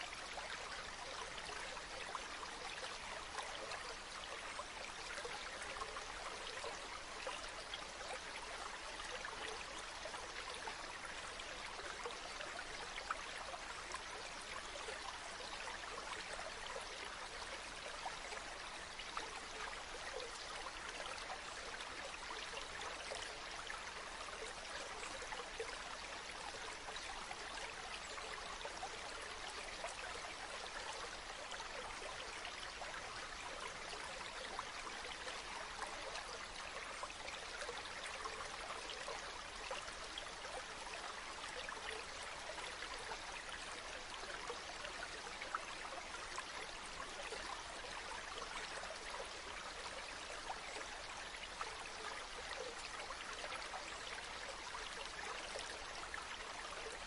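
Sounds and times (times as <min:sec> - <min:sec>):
stream trickling and splashing: 0:00.0 - 0:57.0.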